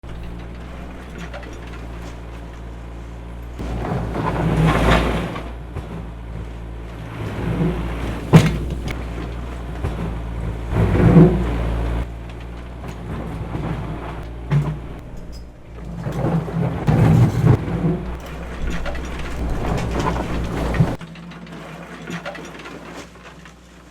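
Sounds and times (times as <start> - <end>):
diesel engine rumbling: 0.0 - 23.9.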